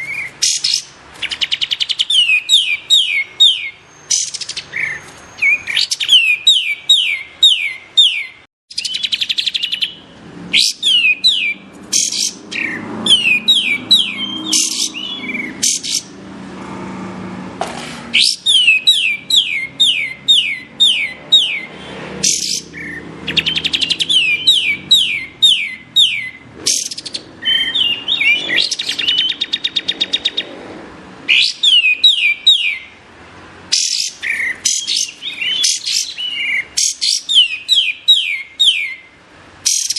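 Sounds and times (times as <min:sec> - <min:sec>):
bird singing whistled notes: 0:00.0 - 0:16.1, 0:18.1 - 0:30.5, 0:31.3 - 0:32.9, 0:33.7 - 0:39.1, 0:39.7 - 0:39.9.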